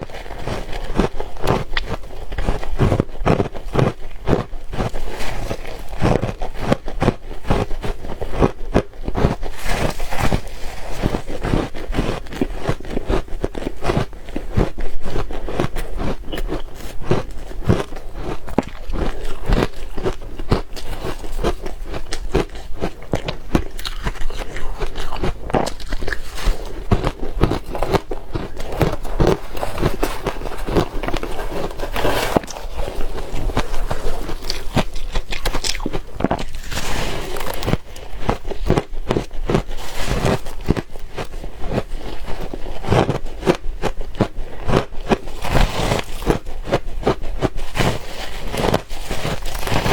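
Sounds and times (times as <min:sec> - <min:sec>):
person chewing ice: 0:00.0 - 0:49.9.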